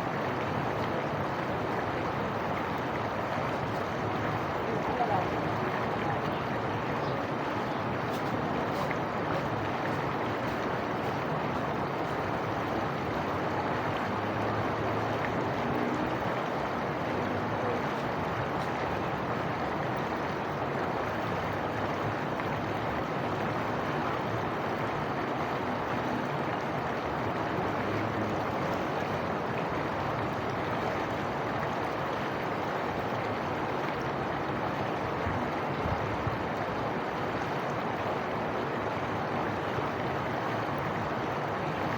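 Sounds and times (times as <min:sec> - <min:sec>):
water flowing: 0:00.0 - 0:41.9.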